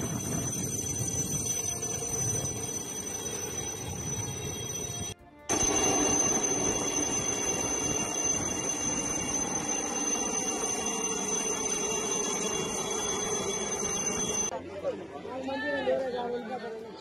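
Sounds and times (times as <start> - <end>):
helicopter hovering overhead: 0.0 - 14.5.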